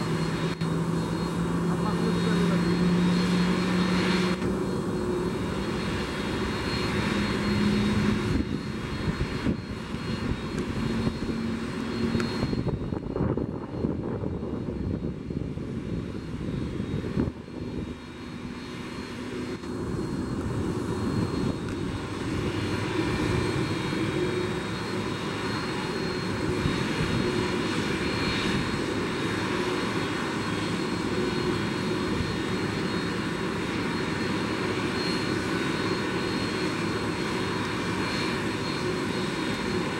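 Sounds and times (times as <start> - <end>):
jet engines at taxi power: 0.0 - 39.9.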